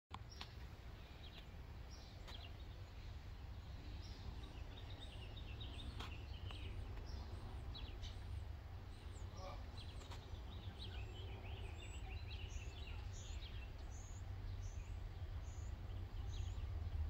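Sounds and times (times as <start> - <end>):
low steady rumble: 0.1 - 17.0
songbirds chirping: 0.1 - 17.0.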